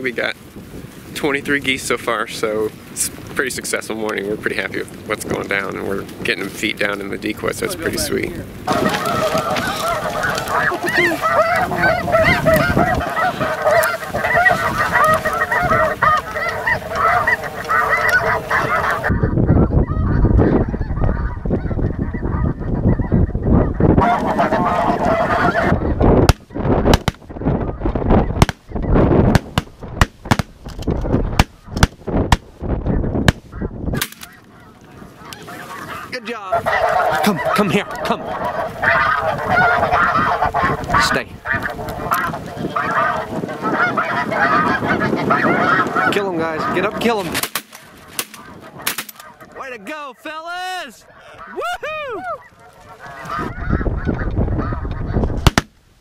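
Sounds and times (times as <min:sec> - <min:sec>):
geese honking: 0:03.8 - 0:30.5, 0:31.1 - 0:55.7.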